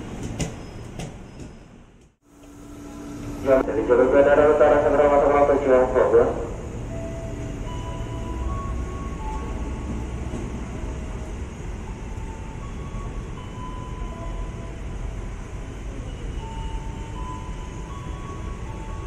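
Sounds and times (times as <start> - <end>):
train rail rumble: 0.0 - 19.0.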